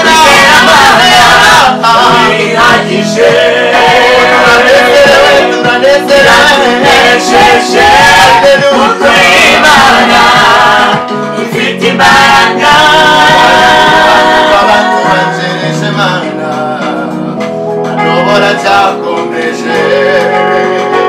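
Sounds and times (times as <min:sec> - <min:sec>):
choir singing a hymn: 0:00.0 - 0:16.3, 0:18.1 - 0:20.7
instrumental backing: 0:00.0 - 0:21.0.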